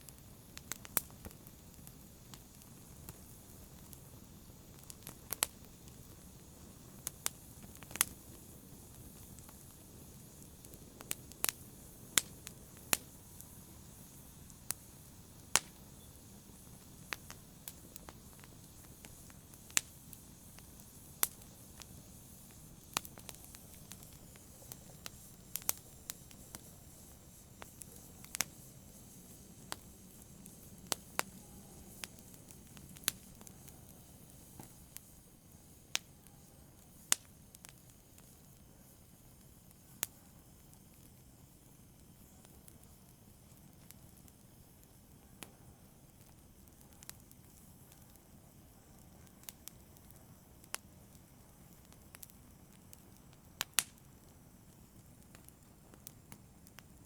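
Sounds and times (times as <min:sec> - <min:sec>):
faint steady hiss: 0:00.0 - 0:57.0
fire crackling and popping: 0:00.0 - 0:57.0.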